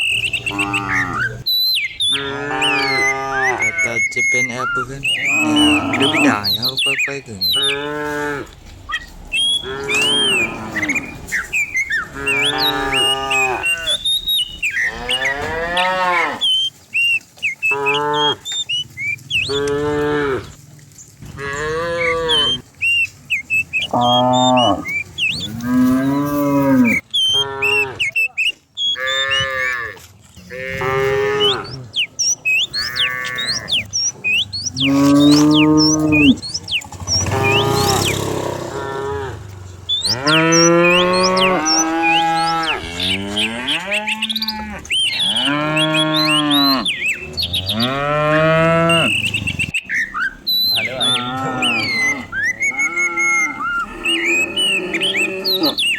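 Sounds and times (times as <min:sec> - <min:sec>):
cows mooing: 0:00.0 - 0:28.3, 0:28.9 - 0:55.9.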